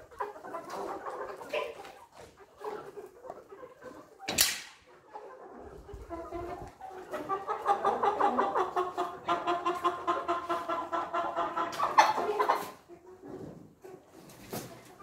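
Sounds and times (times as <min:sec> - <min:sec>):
chickens clucking and cackling: 0:00.0 - 0:15.0.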